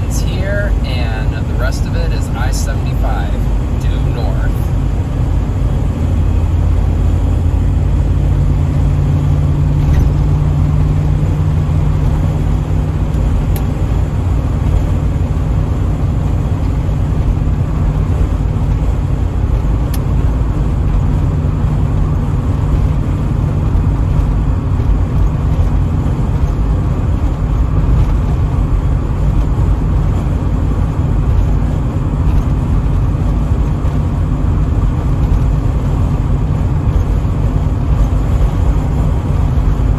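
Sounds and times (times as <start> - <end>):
car engine drone: 0.0 - 39.9
road and tyre noise: 0.0 - 39.9.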